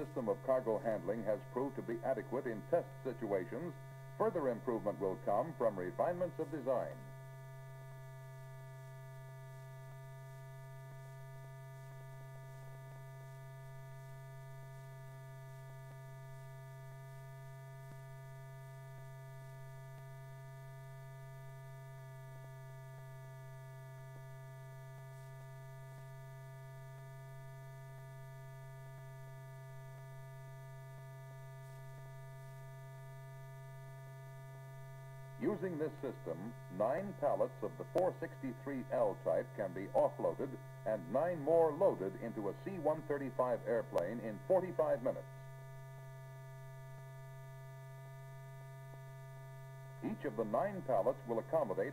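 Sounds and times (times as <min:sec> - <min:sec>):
low electrical hum: 0:00.0 - 0:51.9.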